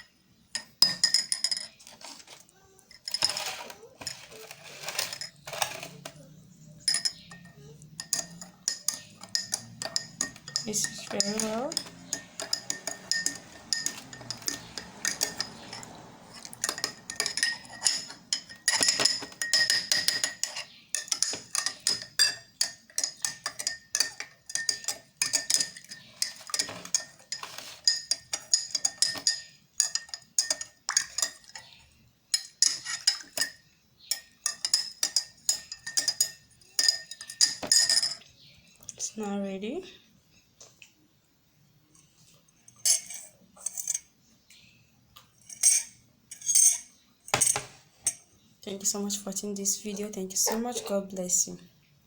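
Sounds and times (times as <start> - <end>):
metal spoon clinking in a cup: 0.5 - 38.4, 42.7 - 44.1, 45.3 - 48.3, 49.1 - 51.0.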